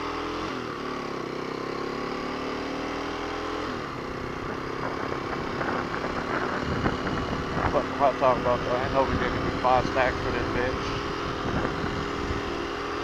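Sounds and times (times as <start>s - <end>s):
motorcycle engine shifting gears: 0.0s - 13.0s.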